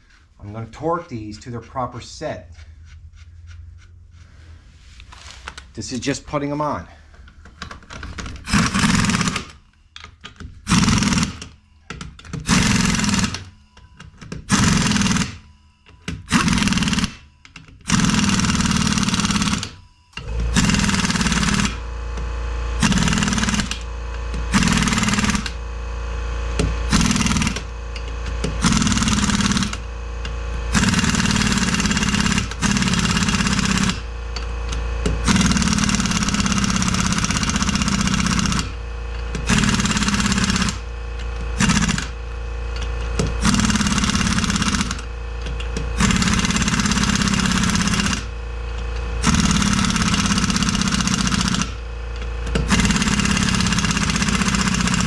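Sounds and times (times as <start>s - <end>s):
impact wrench hammering: 7.5s - 25.7s, 26.4s - 55.0s.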